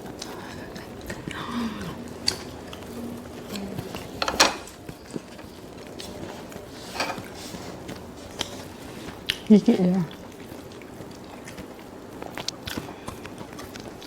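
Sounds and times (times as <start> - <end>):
eating crunches and clicks: 0.0 - 14.0.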